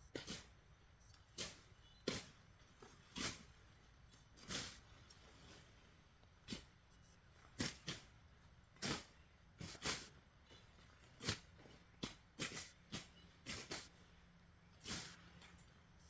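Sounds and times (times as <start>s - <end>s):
machete cutting grass: 0.1s - 0.6s, 1.3s - 3.7s, 4.3s - 5.7s, 6.4s - 6.8s, 7.4s - 15.7s.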